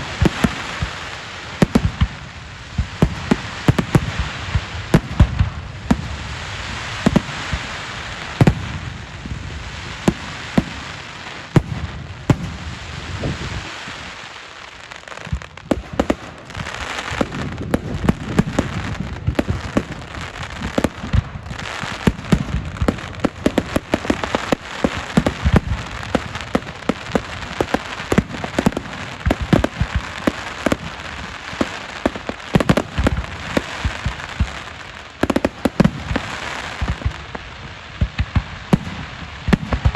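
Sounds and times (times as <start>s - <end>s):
fireworks bangs: 0.0s - 39.9s
fireworks crackling hiss: 0.0s - 39.9s.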